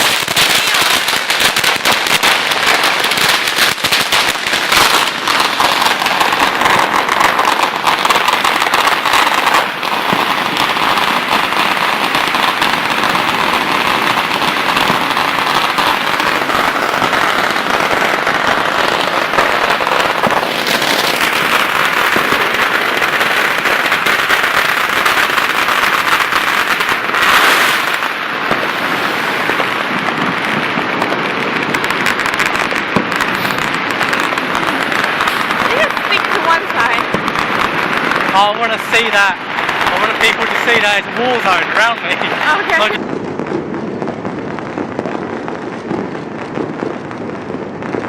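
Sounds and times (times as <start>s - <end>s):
firecrackers and fireworks crackling: 0.0s - 48.0s.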